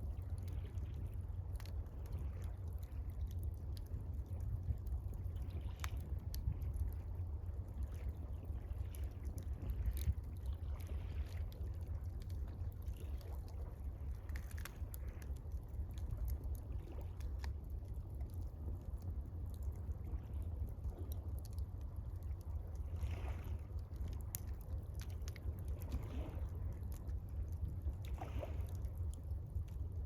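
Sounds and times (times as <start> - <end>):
low steady rumble: 0.0 - 30.0
water trickling and lapping: 0.0 - 30.0.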